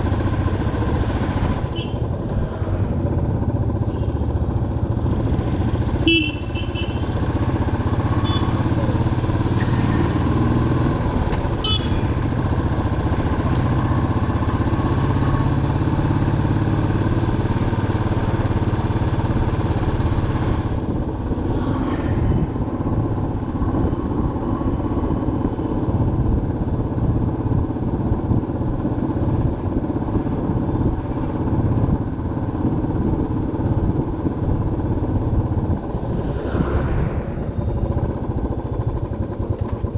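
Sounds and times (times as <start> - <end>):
motorcycle engine running: 0.0 - 21.6, 22.4 - 39.9
wind and road noise: 0.0 - 39.9.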